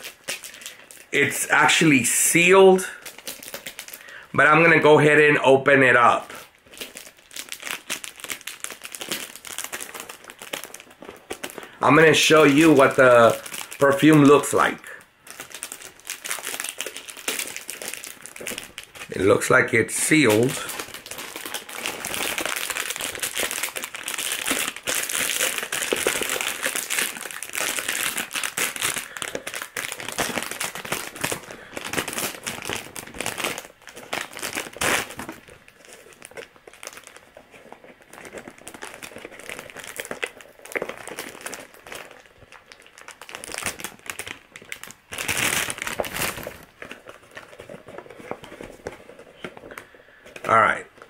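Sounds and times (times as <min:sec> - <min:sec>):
plastic wrap crinkling: 0:00.0 - 0:51.0.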